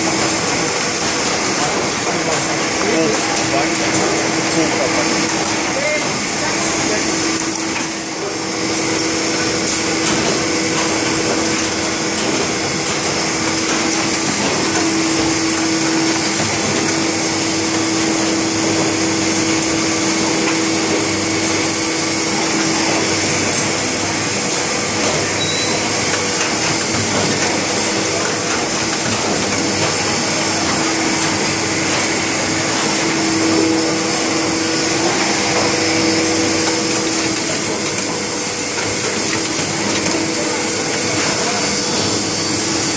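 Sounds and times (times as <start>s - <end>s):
bookbinding machine whirring: 0.0s - 42.9s
steady machine hum: 0.0s - 42.9s.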